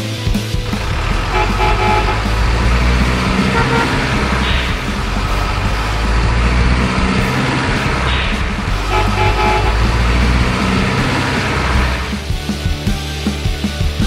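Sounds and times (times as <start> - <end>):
background music: 0.0 - 14.0
truck engine running: 0.5 - 12.8
truck horn toots: 0.7 - 12.1.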